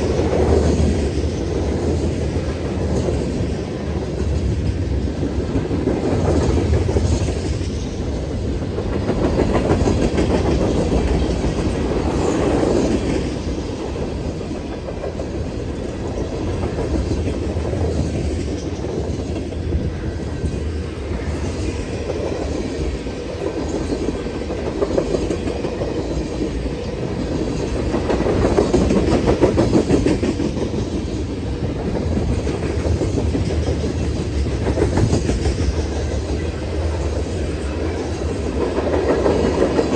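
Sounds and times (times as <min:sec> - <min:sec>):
train wheels clacking over rail joints: 0:00.0 - 0:39.9.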